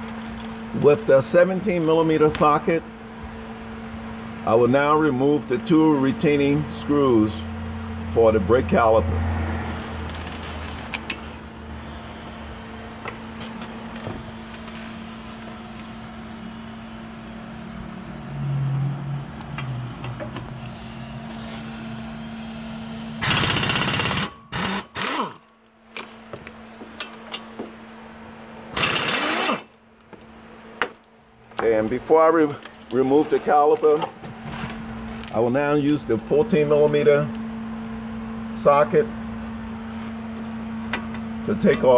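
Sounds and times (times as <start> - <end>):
steady low hum: 0.1 - 41.9.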